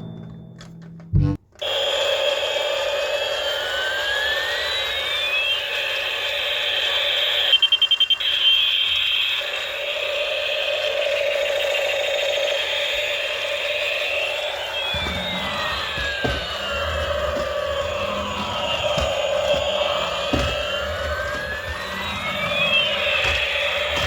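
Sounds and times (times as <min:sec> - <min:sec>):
warbling alarm tone: 0:01.2 - 0:24.0.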